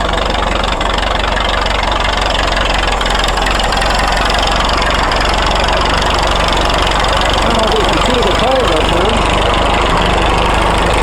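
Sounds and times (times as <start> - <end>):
road roller engine chuffing: 0.0 - 11.0.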